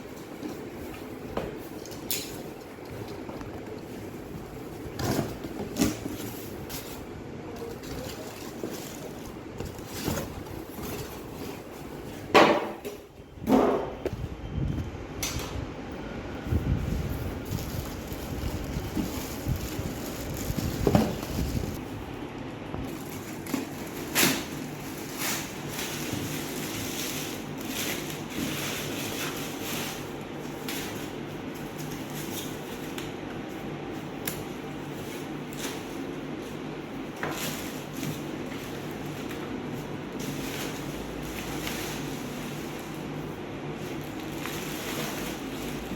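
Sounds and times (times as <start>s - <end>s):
packaging rustling: 0.0s - 12.3s, 16.9s - 21.8s, 22.8s - 33.2s, 33.9s - 45.9s
steady background hum: 0.0s - 45.9s.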